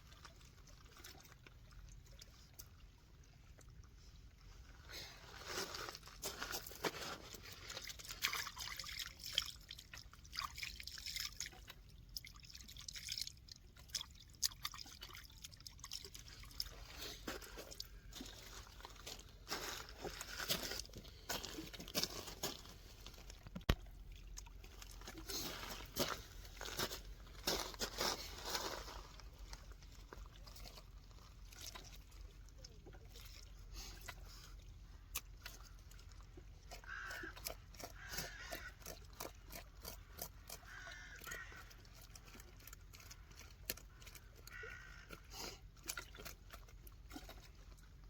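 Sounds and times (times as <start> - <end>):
water trickling and splashing: 0.0 - 48.0.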